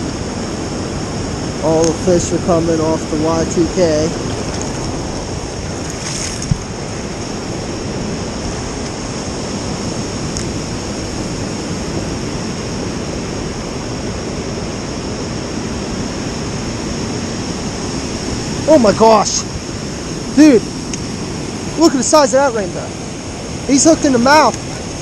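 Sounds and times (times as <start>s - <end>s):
river water over rapids: 0.0s - 25.0s.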